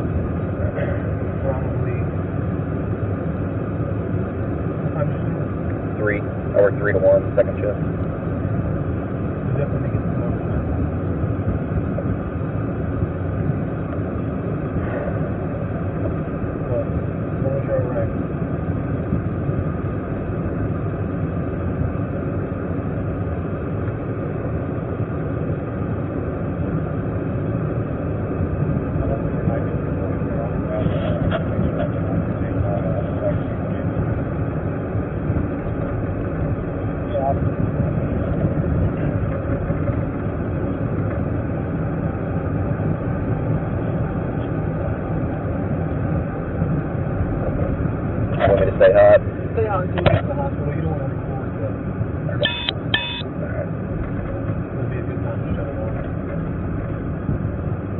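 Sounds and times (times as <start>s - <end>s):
car road and engine noise: 0.0s - 57.9s.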